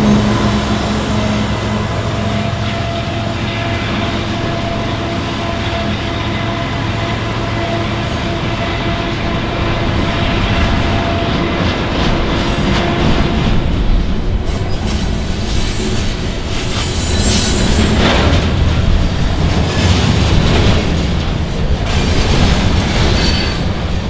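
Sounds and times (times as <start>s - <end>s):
freight train rumbling: 0.0s - 24.0s
wheel whine: 0.0s - 24.0s.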